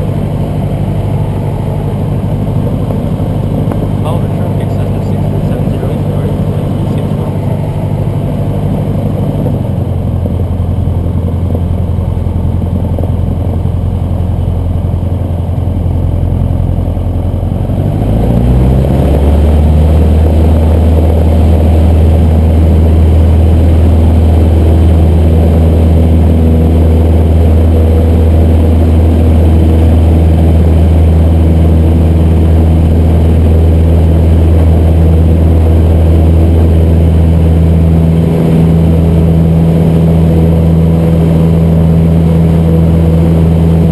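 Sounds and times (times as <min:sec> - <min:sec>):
light aircraft engine droning: 0:00.0 - 0:43.9.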